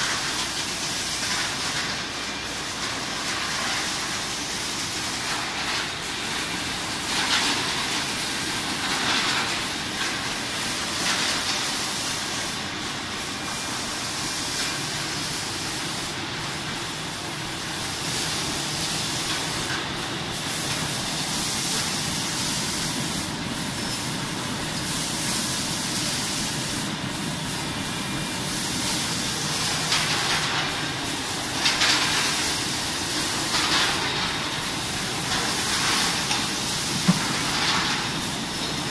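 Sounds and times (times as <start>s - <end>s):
air exhaust hissing surges: 0.0s - 38.9s
compressed air hiss: 0.0s - 38.9s.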